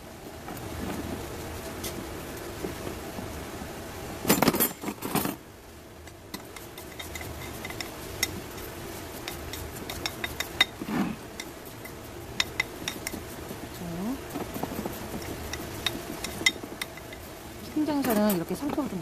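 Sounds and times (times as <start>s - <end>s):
rustle: 0.0s - 19.0s.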